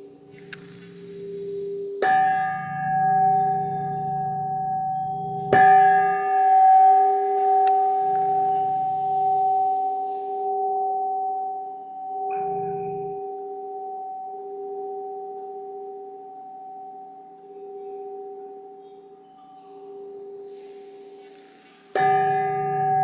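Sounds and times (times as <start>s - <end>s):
metal chime struck: 0.0s - 23.0s
steady low tone: 0.0s - 23.0s.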